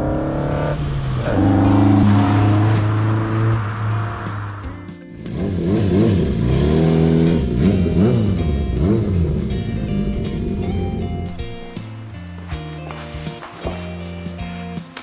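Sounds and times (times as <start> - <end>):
car engine revving: 0.0 - 12.5
background music: 0.0 - 15.0.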